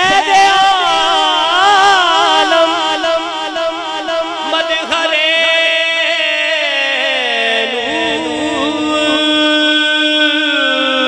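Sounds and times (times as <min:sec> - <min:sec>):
man chanting through sound system: 0:00.0 - 0:11.0.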